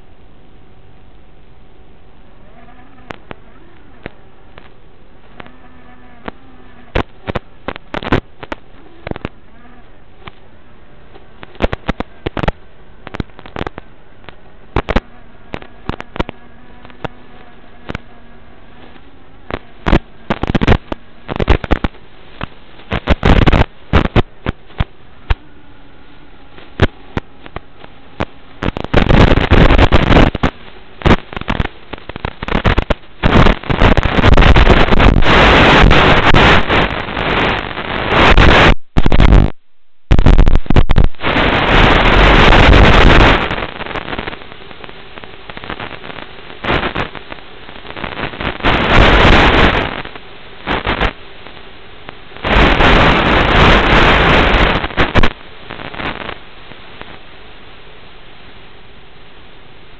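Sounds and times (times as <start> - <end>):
crackling radio static: 0.0 - 59.9
faint steady tones: 0.0 - 59.9
bursts of hiss: 6.2 - 10.5, 11.1 - 25.4, 26.5 - 39.5, 40.1 - 51.6, 52.4 - 57.2.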